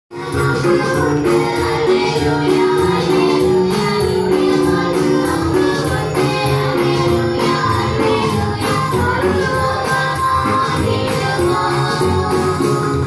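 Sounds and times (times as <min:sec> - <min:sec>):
girls singing into microphones: 0:00.1 - 0:13.0
percussion beat: 0:00.1 - 0:13.0.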